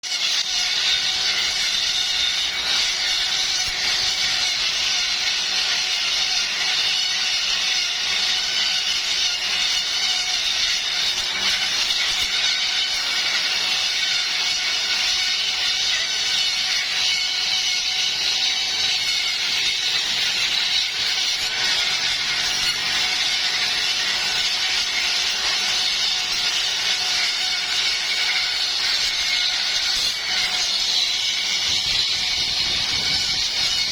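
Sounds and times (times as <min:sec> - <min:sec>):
planing machine whine: 0:00.0 - 0:33.9.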